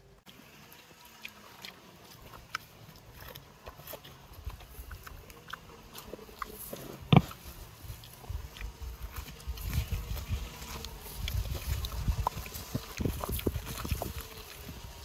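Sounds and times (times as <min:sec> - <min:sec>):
animal eating crunching: 0:00.3 - 0:15.0.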